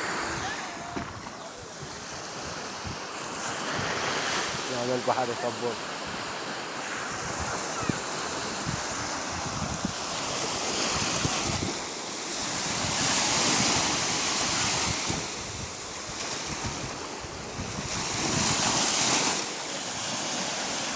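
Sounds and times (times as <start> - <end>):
sea waves washing in: 0.0 - 20.9.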